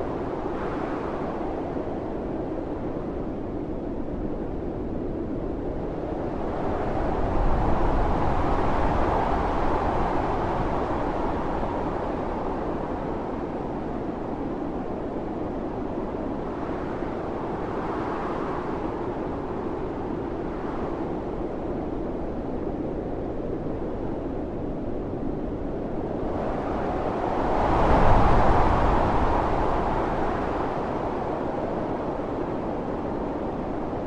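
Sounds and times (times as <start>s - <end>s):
howling snowstorm wind: 0.0s - 34.0s.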